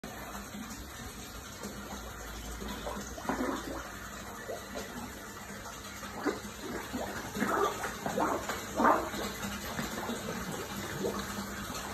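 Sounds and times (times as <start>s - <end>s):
fish splashing and slurping: 0.0s - 11.9s
water running from a spout: 0.0s - 11.9s.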